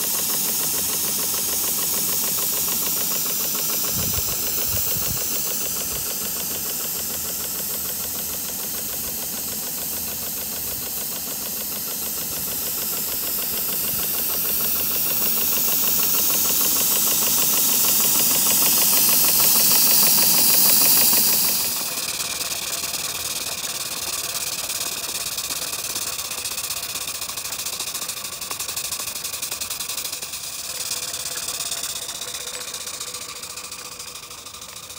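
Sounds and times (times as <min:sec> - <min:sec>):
loud steam hiss: 0:00.0 - 0:34.9
steam engine exhaust chuffing: 0:00.0 - 0:34.9.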